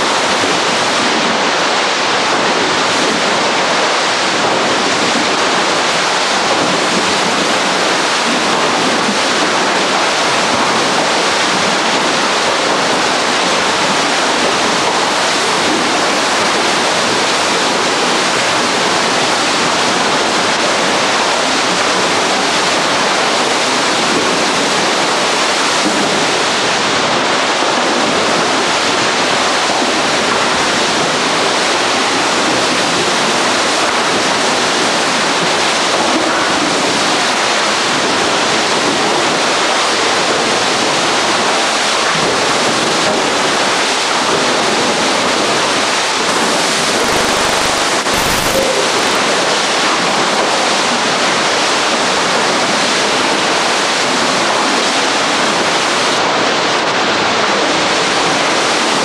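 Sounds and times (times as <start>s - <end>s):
churning water rushing: 0.0s - 59.0s.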